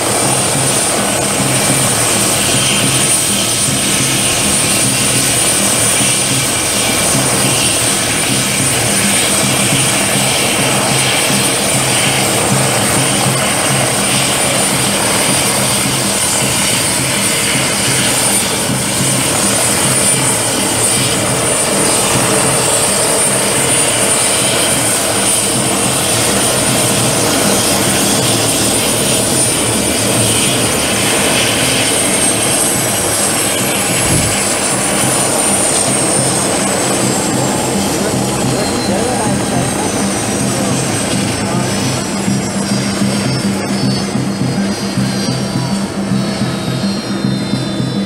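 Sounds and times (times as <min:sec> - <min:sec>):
helicopter rotors and turbines: 0:00.0 - 0:48.0
high turbine whine: 0:00.0 - 0:48.0
high whine falling in pitch: 0:00.0 - 0:48.0.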